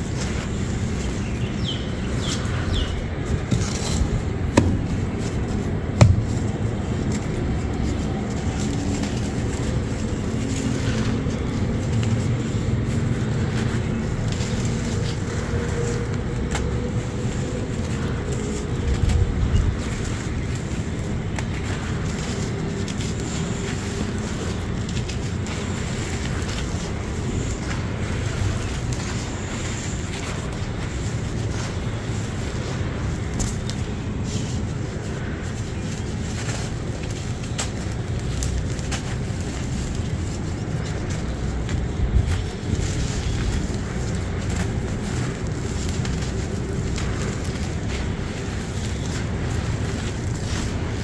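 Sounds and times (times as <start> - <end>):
cement chunks crumbled by hand: 0.0 - 51.0.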